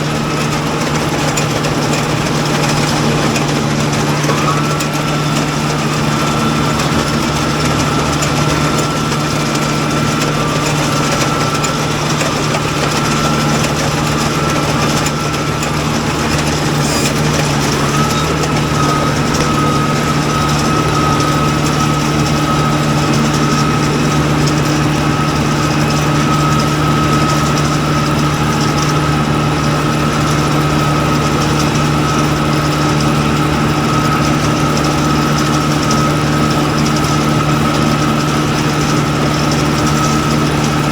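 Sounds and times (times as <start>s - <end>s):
high mechanical whine: 0.0s - 40.9s
tractor engine running: 0.0s - 40.9s.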